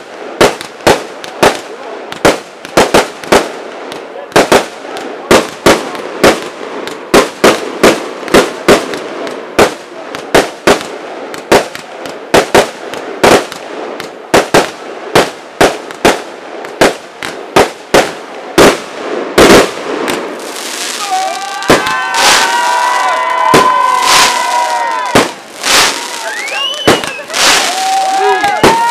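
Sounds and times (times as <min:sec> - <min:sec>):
firework hiss: 0:00.0 - 0:28.9
fireworks bangs: 0:00.0 - 0:28.9.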